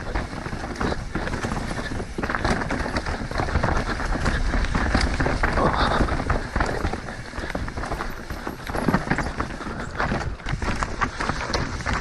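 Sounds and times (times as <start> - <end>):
bike knocking and rattling: 0.0 - 12.0
tyres rolling over rock: 0.0 - 12.0
wind rumble on microphone: 0.0 - 12.0.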